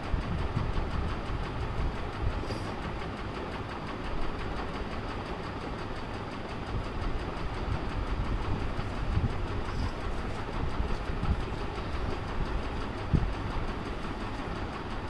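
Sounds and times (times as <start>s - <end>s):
steady rumbling: 0.0s - 15.0s.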